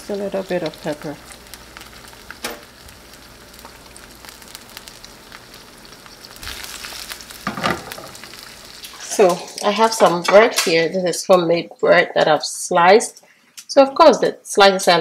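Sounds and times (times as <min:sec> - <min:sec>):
eggs sizzling in oil: 0:00.0 - 0:13.8.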